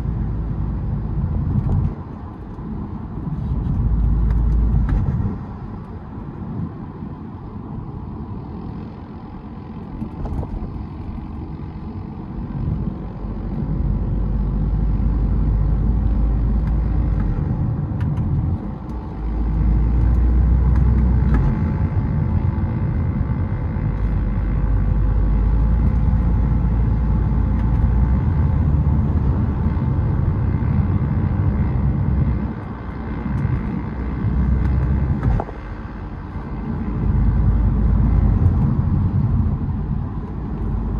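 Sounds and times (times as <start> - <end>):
car engine rumbling under load: 0.0 - 40.9.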